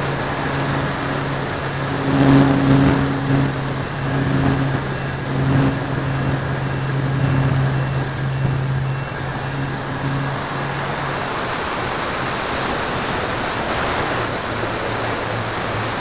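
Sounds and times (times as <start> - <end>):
electric motors and propellers humming: 0.0 - 16.0
wind rushing over camera: 0.0 - 16.0.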